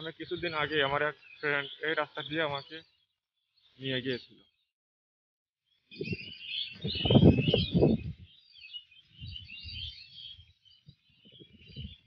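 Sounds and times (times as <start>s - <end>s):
small birds chirping: 0.0s - 4.8s, 5.6s - 12.0s.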